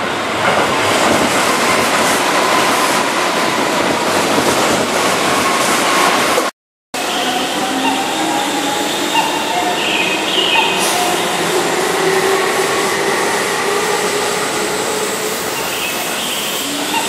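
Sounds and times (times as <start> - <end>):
electric train rushing: 0.0 - 17.0.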